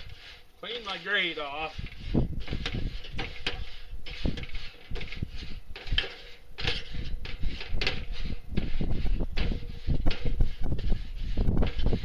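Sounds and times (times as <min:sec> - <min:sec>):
grill grate being scraped: 0:00.0 - 0:12.0.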